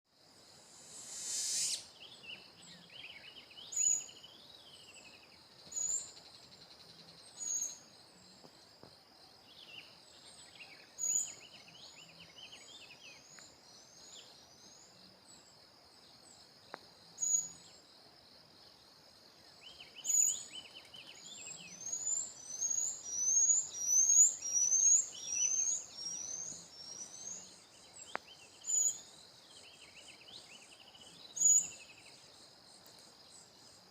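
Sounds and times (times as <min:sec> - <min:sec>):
high insect drone: 0:00.1 - 0:33.9
songbirds singing: 0:00.1 - 0:33.9.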